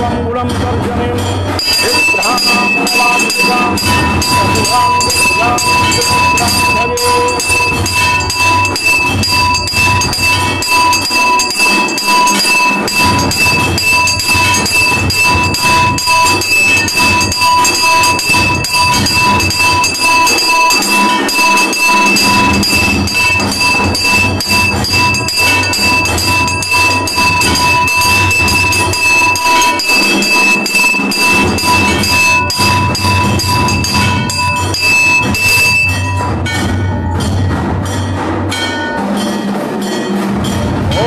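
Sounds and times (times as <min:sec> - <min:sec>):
low beat: 0:00.0 - 0:41.0
temple bells ringing rapidly: 0:00.0 - 0:41.0.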